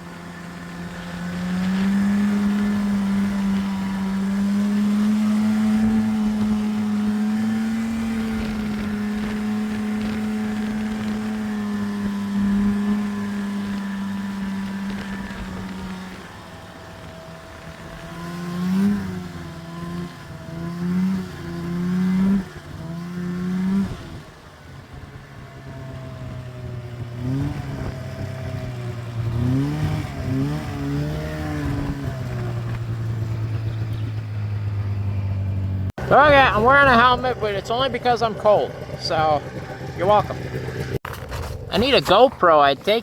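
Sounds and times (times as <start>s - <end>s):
snowmobile engine revving: 0.0s - 43.0s.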